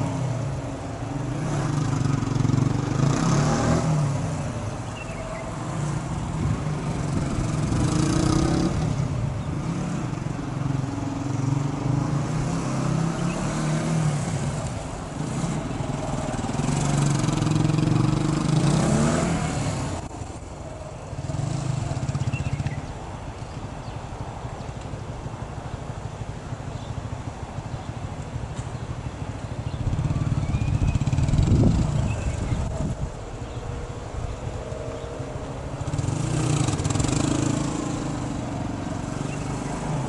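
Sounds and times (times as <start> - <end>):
distant motorcycle engine revving: 0.0 - 20.4, 21.0 - 40.0.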